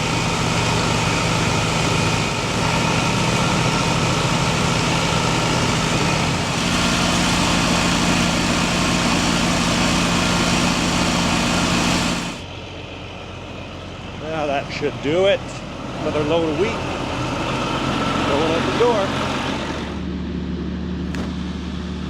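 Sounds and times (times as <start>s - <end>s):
farm machinery engine droning: 0.0s - 22.0s.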